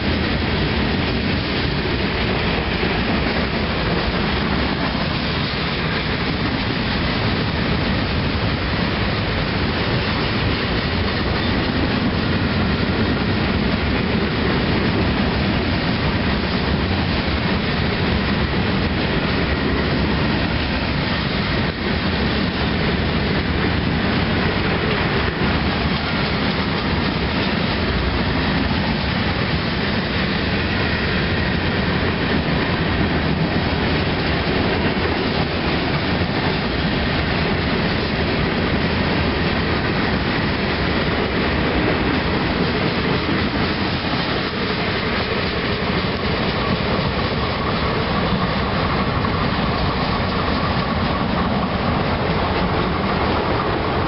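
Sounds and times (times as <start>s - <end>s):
freight train cars rolling past: 0.0s - 54.0s.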